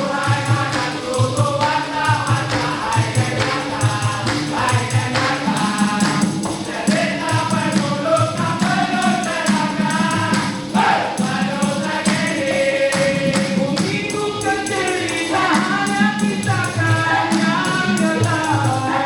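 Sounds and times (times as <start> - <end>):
group of voices singing: 0.0 - 19.0
hand percussion beat: 0.0 - 19.0.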